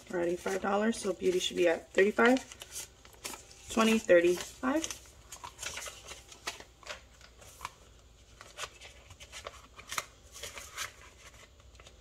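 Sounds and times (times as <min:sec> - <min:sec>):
banknotes rustling: 0:00.0 - 0:12.0.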